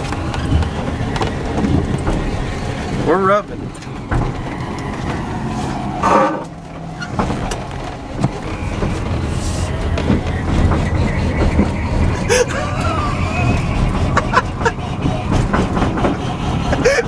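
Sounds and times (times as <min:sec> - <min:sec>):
tyres rubbing against fenders: 0:00.0 - 0:17.0
tyres rumbling on road: 0:00.0 - 0:17.0.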